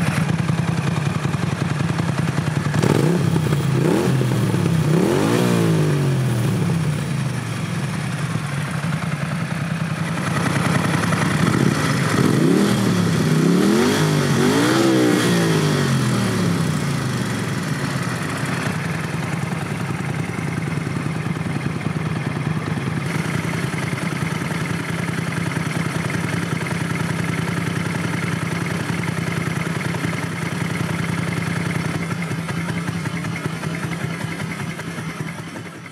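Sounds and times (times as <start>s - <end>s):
motorcycle engine revving and idling: 0.0s - 35.9s.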